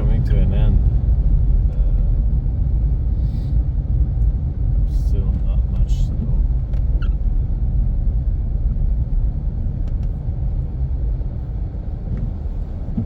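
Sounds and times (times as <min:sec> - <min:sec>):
car driving engine and tyre noise: 0:00.0 - 0:13.0.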